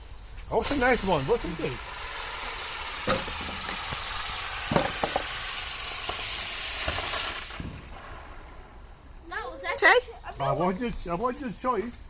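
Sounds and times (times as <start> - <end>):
firework hissing: 0.0 - 11.8
firework crackles: 0.0 - 12.0.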